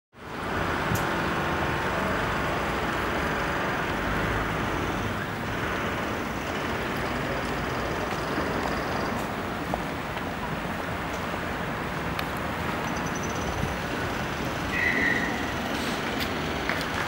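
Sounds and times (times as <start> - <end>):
outdoor rumble and hiss: 0.2 - 17.0.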